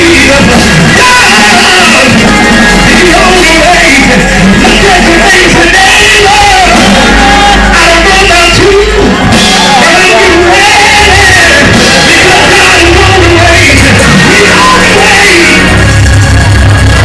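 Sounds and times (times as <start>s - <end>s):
person singing: 0.0s - 16.0s
loud music: 0.0s - 17.0s.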